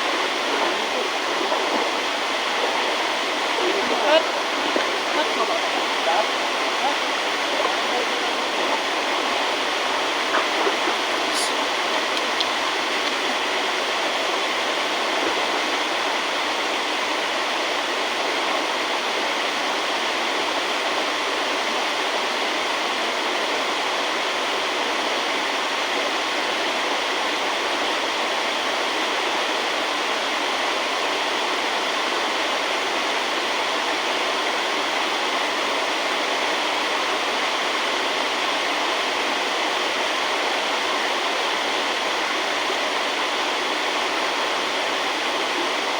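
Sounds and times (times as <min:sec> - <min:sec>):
rushing water: 0:00.0 - 0:45.9.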